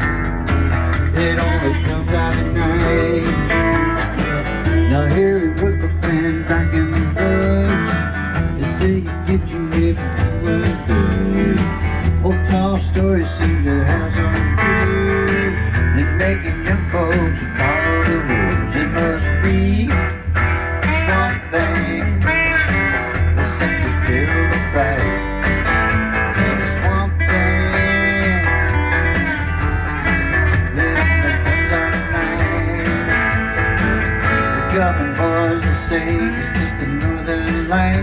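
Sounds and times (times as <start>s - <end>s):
electric and acoustic guitars: 0.0s - 38.0s
low bass: 0.0s - 38.0s.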